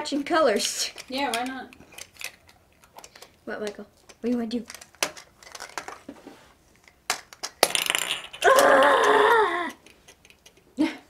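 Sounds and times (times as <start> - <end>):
plastic capsules clicking and clattering: 0.1 - 6.1, 6.8 - 10.6.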